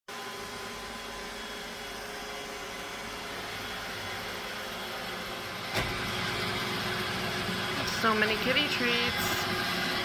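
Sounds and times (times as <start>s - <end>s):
robot vacuum whirring hum: 0.1s - 10.0s.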